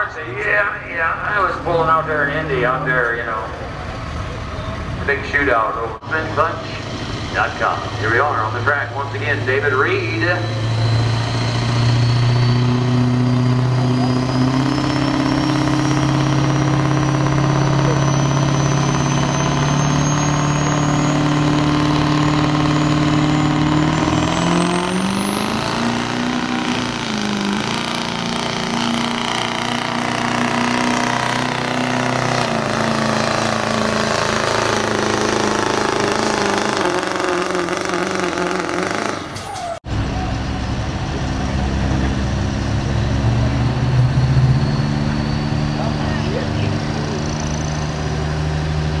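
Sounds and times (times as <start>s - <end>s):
truck engine drone with whine: 0.0s - 49.0s.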